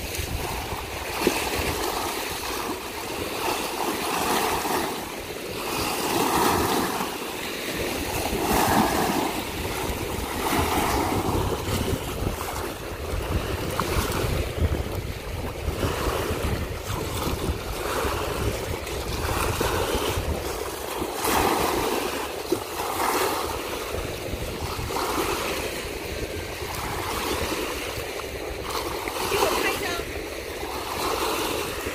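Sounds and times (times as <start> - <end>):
small waves washing on rocks: 0.0 - 31.9
wind rumble on microphone: 0.0 - 31.9.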